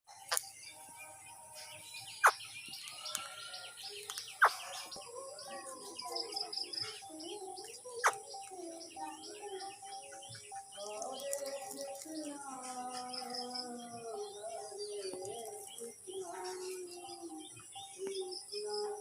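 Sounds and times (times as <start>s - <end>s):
parakeet chattering and chirping: 2.0s - 18.4s.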